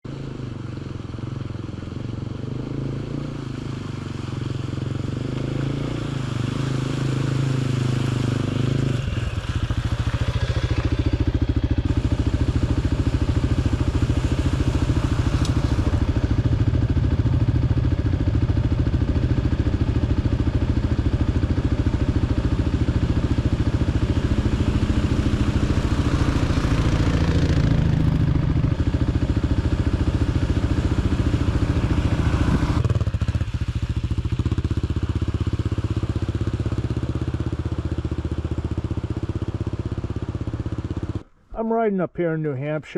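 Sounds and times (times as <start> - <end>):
dirt bike engine running: 0.1 - 41.3.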